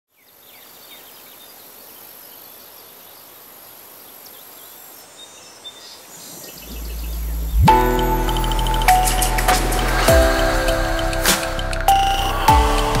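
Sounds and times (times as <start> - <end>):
birds chirping: 0.1 - 12.7.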